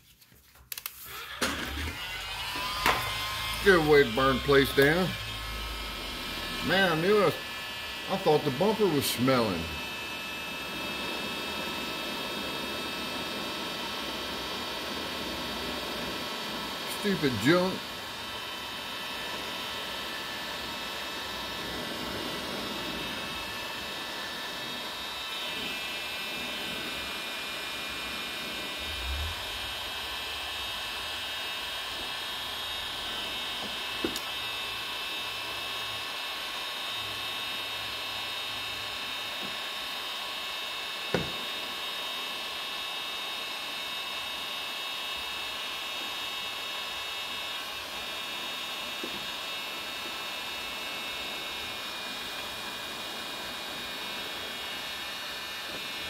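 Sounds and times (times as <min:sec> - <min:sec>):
heat gun fan blowing: 0:00.7 - 0:56.0.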